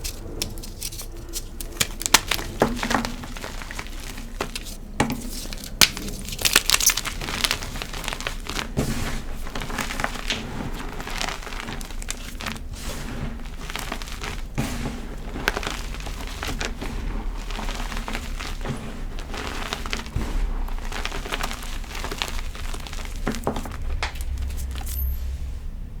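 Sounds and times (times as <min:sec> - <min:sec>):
chalk crunching by hand: 0:00.0 - 0:25.3.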